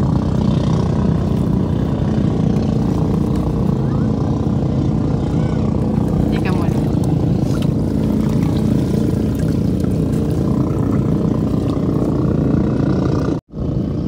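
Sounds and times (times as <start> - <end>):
small boat engine running: 0.0 - 14.0.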